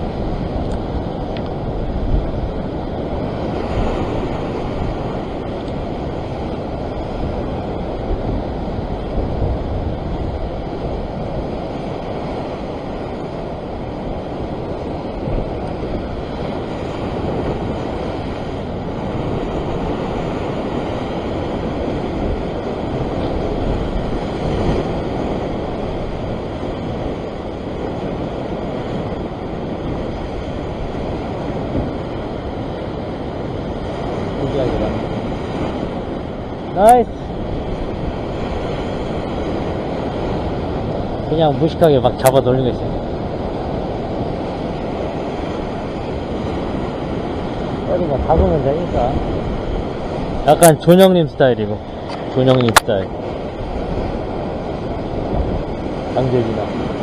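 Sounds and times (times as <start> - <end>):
surf breaking against rocks: 0.0 - 57.0
wind buffeting microphone: 0.0 - 57.0.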